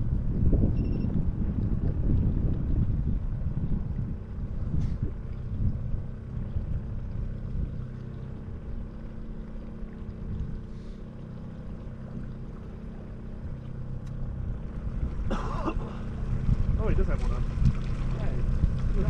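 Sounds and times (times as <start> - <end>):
boat motor droning: 0.0 - 19.0.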